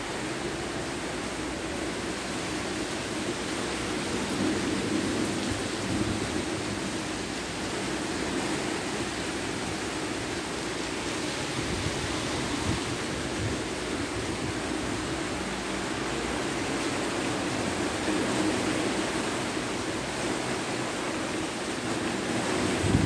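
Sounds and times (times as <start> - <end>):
heavy rain on foliage and roofs: 0.0 - 23.0.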